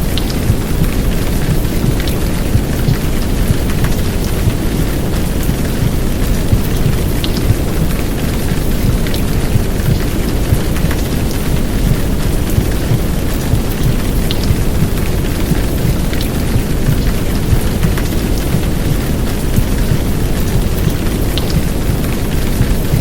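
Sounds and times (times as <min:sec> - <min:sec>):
heavy rain hiss: 0:00.0 - 0:23.0
sharp raindrop ticks: 0:00.0 - 0:23.0.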